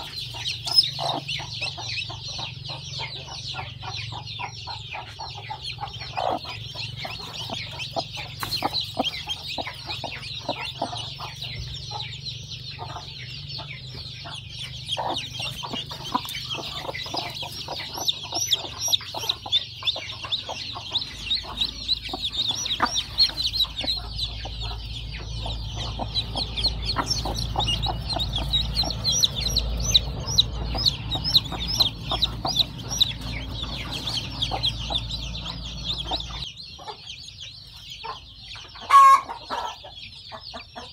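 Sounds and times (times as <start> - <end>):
chicks peeping: 0.0 - 40.9
hen clucking: 0.0 - 40.9.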